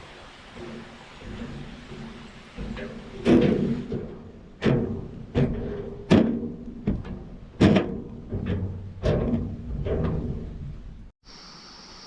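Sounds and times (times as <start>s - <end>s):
footsteps on metal structure: 0.5s - 10.8s.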